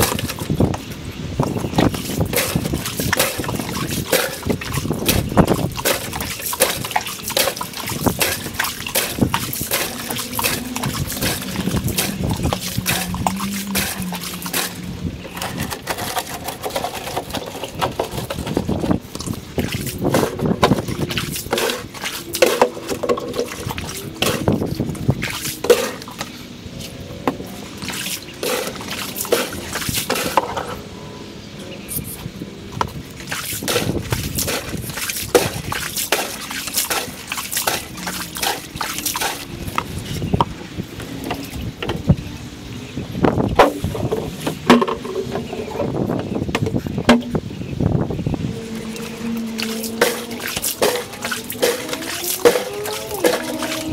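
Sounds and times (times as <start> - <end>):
water trickling and sloshing: 0.0 - 53.9.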